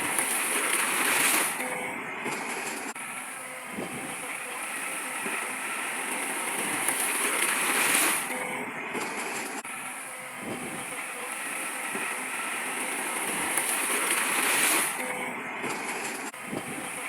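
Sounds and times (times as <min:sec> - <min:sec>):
earthmoving machinery engine: 0:00.0 - 0:17.0.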